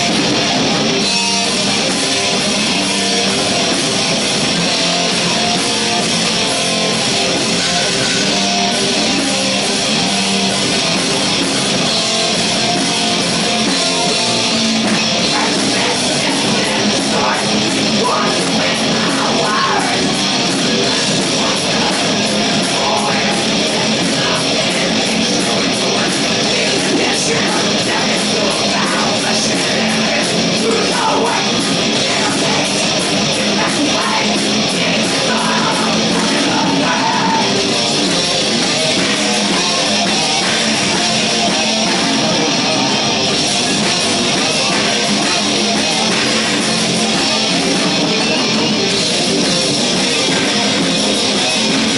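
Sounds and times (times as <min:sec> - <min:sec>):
distorted electric guitars: 0:00.0 - 0:51.9
drums: 0:00.0 - 0:51.9.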